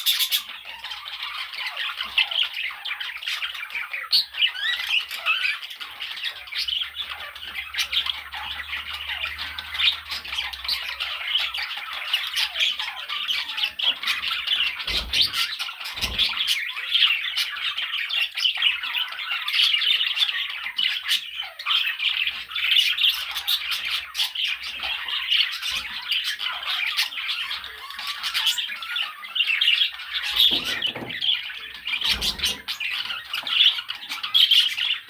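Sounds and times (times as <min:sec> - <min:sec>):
budgerigars chattering: 0:00.0 - 0:35.0.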